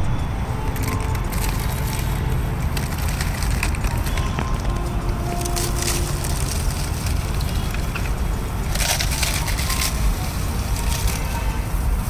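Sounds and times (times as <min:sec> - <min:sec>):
low rumble: 0:00.0 - 0:12.0
paper-thin bread crackling: 0:00.0 - 0:12.0.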